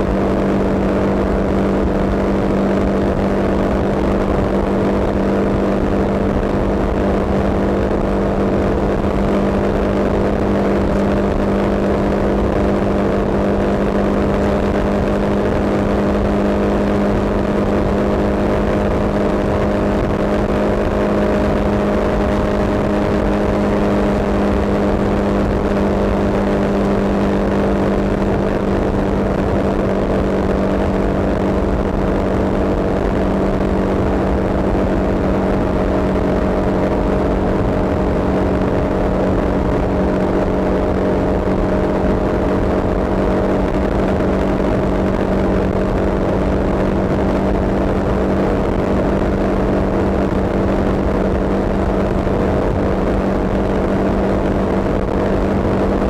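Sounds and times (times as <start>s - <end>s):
road noise: 0.0s - 56.0s
vehicle engine running: 0.0s - 56.0s.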